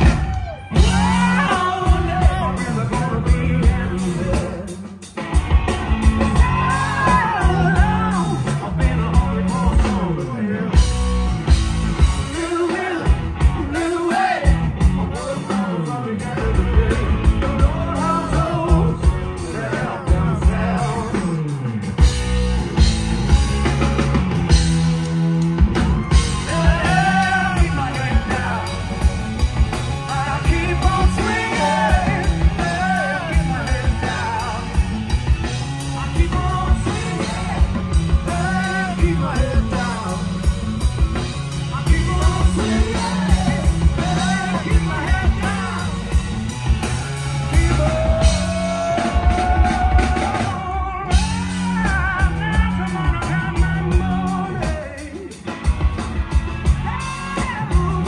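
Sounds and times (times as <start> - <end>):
man singing: 0.0 - 5.1, 6.0 - 22.2, 26.1 - 46.2, 47.4 - 55.5, 56.6 - 58.0
rock band playing: 0.0 - 58.0.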